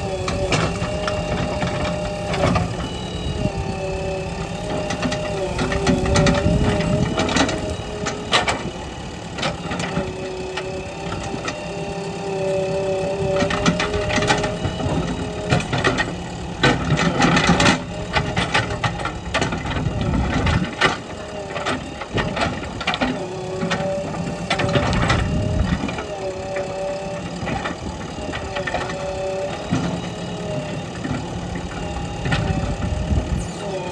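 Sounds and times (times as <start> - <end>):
diesel engine running with whine: 0.0 - 33.9.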